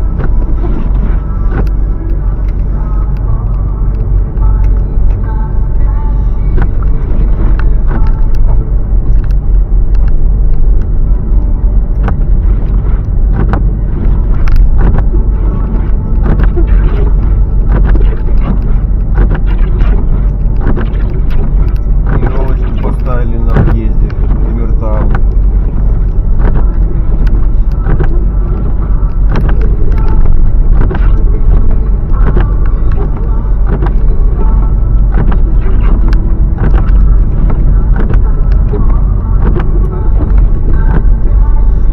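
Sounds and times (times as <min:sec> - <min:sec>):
car engine and tyres rumbling: 0:00.0 - 0:41.9.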